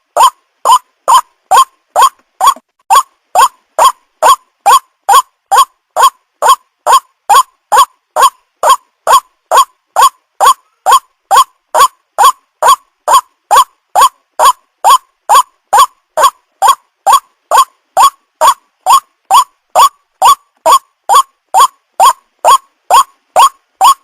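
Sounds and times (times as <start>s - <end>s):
waterhen calling: 0.0s - 24.0s.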